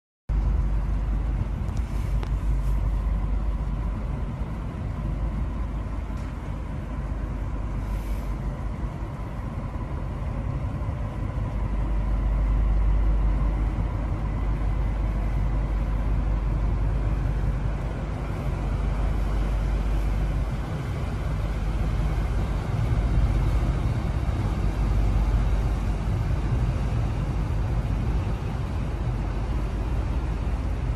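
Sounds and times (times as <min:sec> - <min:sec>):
boat engines rumbling: 0:00.3 - 0:30.9
faint steady whine: 0:00.3 - 0:30.9.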